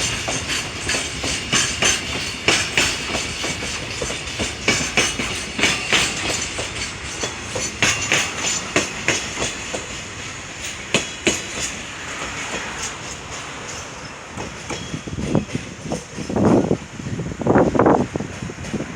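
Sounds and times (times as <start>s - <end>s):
freight train rolling: 0.0s - 18.9s.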